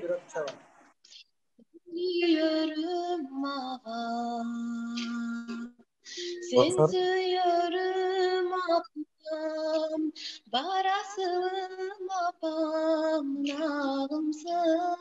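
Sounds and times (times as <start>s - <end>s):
woman singing unaccompanied: 1.8s - 15.0s.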